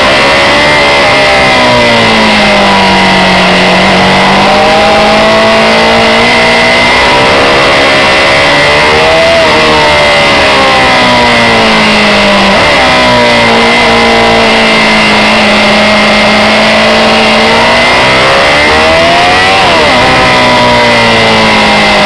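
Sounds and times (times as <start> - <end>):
high whine: 0.0 - 22.0
motorcycle engine running: 0.0 - 22.0
wind and road noise: 0.0 - 22.0.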